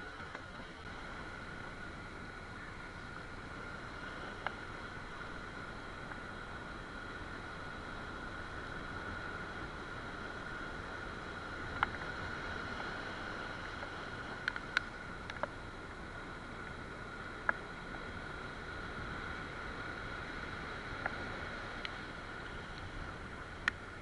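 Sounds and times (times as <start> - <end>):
faint high whine: 0.0 - 24.0
surf washing over rocks: 0.0 - 24.0.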